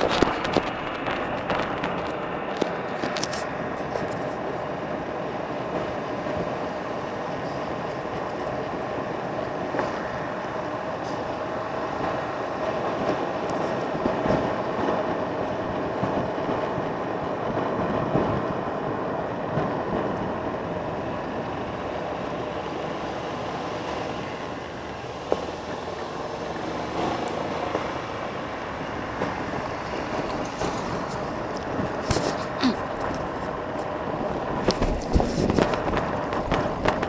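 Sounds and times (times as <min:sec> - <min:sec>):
golf cart running: 0:00.0 - 0:37.0.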